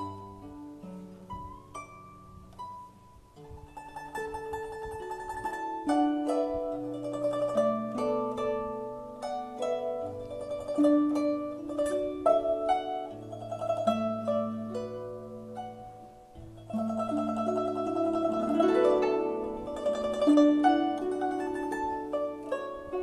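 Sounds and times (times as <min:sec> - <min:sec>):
plucked zither melody: 0:00.0 - 0:23.0.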